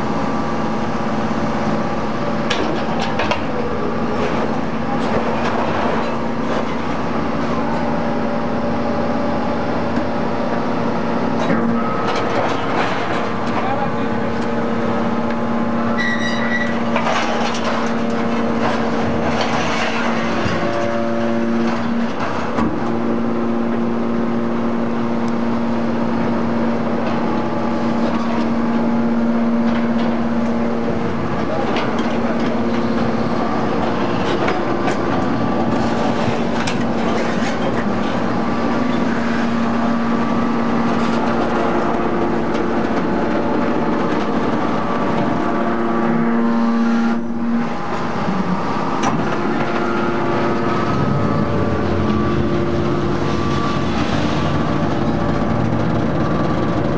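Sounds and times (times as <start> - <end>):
hydraulic pump motor humming: 0.0 - 56.9.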